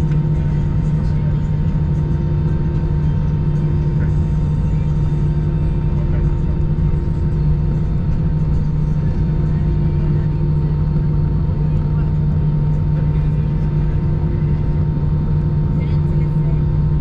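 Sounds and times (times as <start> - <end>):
airplane cabin rumble: 0.0 - 17.0
low hum: 0.0 - 17.0.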